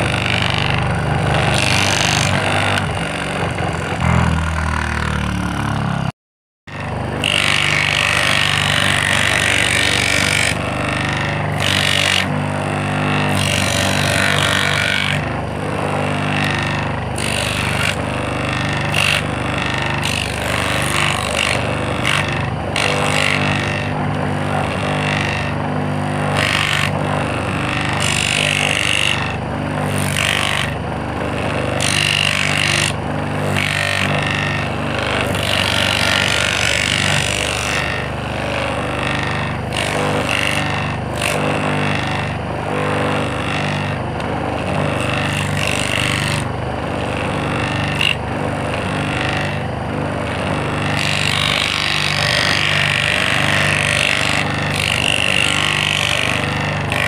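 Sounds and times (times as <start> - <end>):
sanding attachment scraping surface: 0.0 - 5.0, 6.7 - 57.0
small electric motor humming: 0.0 - 5.6, 6.7 - 57.0.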